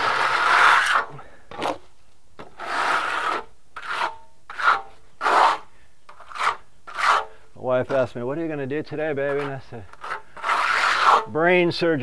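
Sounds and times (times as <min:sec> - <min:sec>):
float scraping over stucco: 0:00.0 - 0:08.2, 0:09.2 - 0:11.3.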